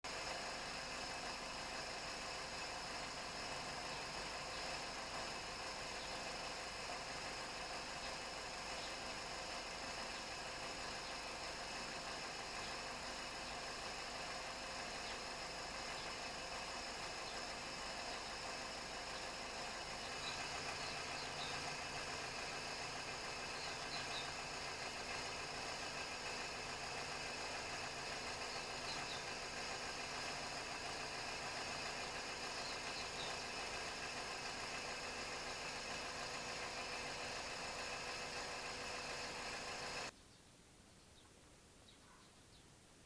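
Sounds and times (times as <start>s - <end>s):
car engine idling: 0.0s - 40.2s.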